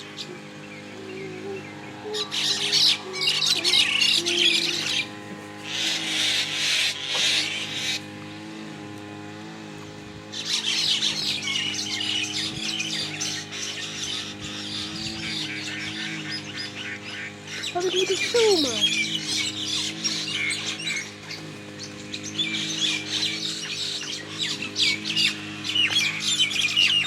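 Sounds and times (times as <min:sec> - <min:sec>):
small birds chattering and chirping: 0:00.0 - 0:08.6, 0:10.0 - 0:27.0
steady low hum: 0:00.0 - 0:27.0.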